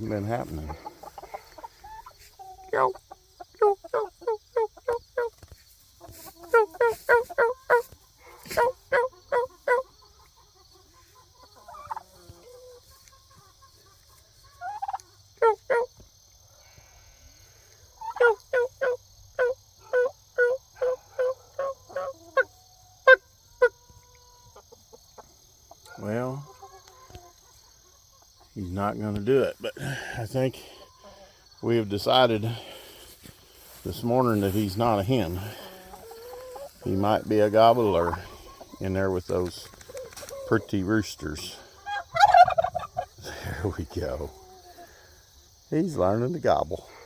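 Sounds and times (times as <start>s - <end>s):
turkey gobbling: 0.0s - 5.4s, 6.0s - 15.9s, 18.0s - 28.6s, 29.4s - 45.0s.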